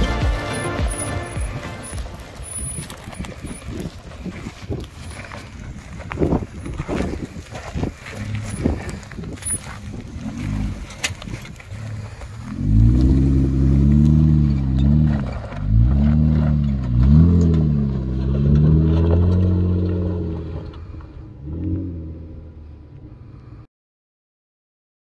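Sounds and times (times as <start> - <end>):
car engine revving: 0.0 - 23.6.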